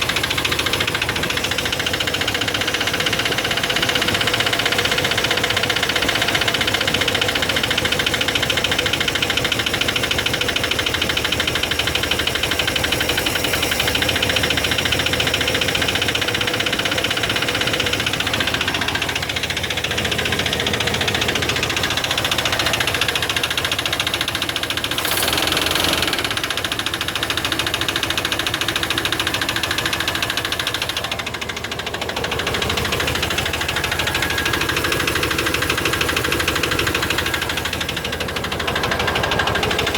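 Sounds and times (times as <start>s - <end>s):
car engine running: 0.0s - 39.9s
rapid engine clicking: 0.0s - 39.9s.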